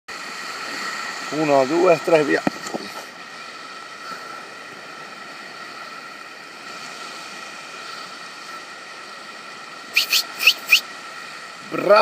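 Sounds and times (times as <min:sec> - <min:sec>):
outdoor background hiss: 0:00.1 - 0:12.0.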